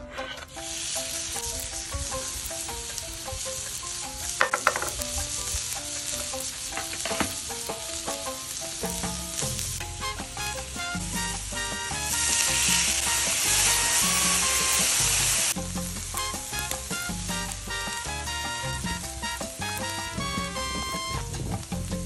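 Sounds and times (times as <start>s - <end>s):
metal spatula scraping griddle: 0.0s - 21.7s
background music: 0.0s - 22.0s
bacon and onion sizzling: 0.1s - 22.0s.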